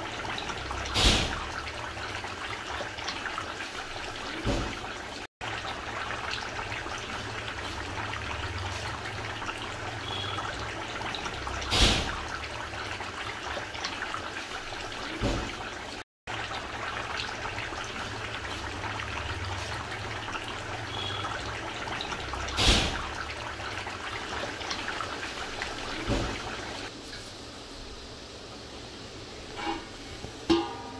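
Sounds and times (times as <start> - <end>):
water trickling: 0.0 - 27.3, 29.4 - 30.9.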